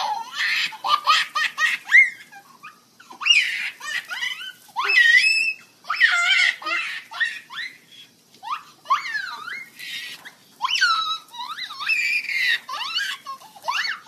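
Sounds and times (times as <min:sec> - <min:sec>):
baby squealing with laughter: 0:00.0 - 0:14.0.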